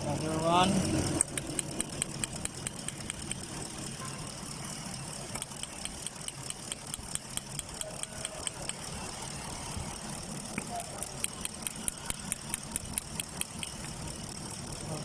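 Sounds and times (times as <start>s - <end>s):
car engine idling: 0.0s - 15.0s
spark tester ticking: 0.3s - 15.0s.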